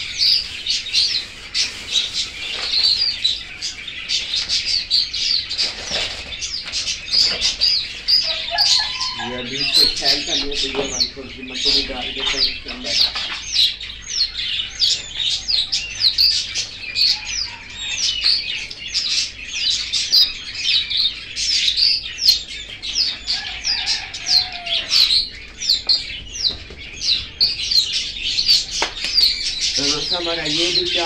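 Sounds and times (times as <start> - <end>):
caged birds chirping: 0.0 - 31.0.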